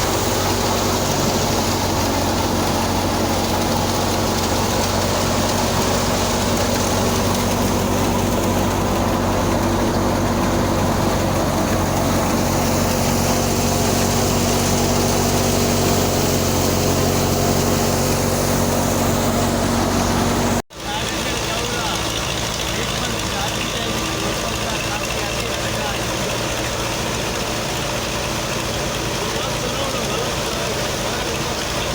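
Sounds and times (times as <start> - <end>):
farm machinery engine droning: 0.0 - 31.9.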